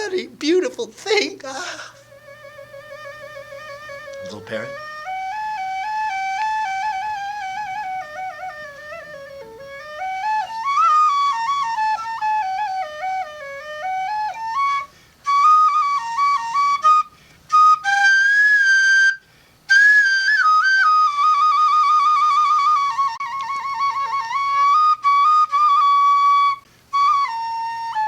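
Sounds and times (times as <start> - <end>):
solo flute melody: 1.5 - 28.0.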